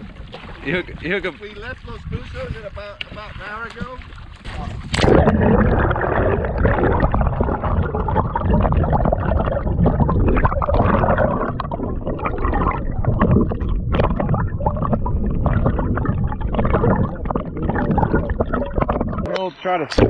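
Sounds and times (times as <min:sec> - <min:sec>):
muffled underwater water gurgling: 0:00.0 - 0:20.0.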